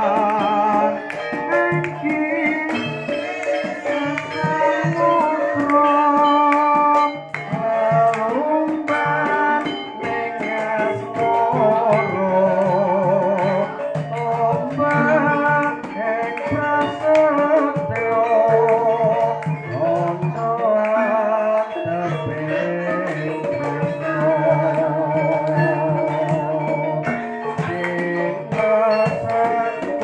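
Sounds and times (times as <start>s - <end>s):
hand drum strokes: 0.0s - 30.0s
metallophones playing a melody: 0.0s - 30.0s
person singing a wavering line: 0.0s - 30.0s.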